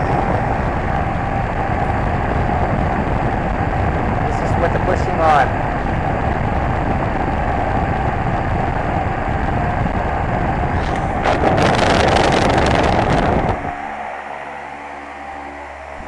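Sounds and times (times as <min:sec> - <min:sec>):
fan humming: 0:00.0 - 0:16.0
wind buffeting microphone: 0:00.0 - 0:16.0.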